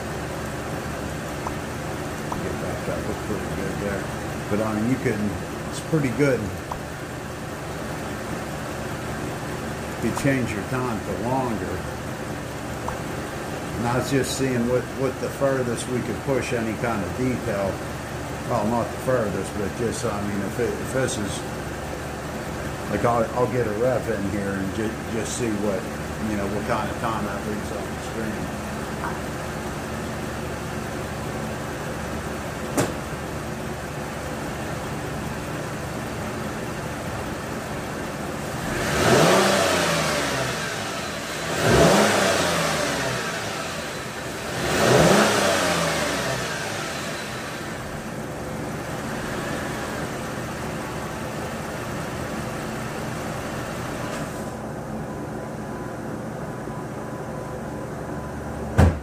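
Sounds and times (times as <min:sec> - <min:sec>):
car engine idling and revving: 0:00.0 - 0:58.7.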